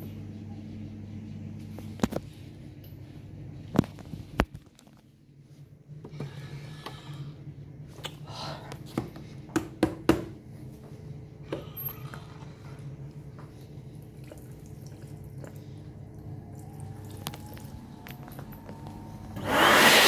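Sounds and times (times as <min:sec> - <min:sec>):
low steady hum: 0:00.0 - 0:19.5.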